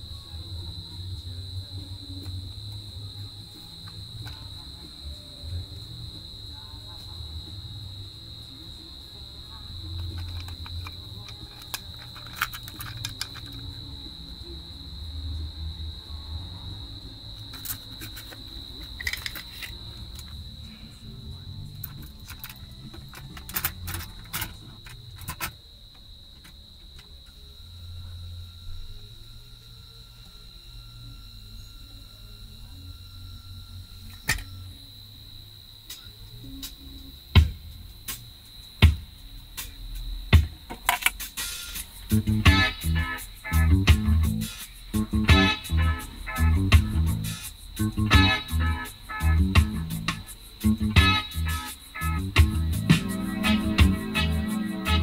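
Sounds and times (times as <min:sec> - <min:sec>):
crickets chirring: 0:00.0 - 0:55.0
insects trilling: 0:00.0 - 0:55.0.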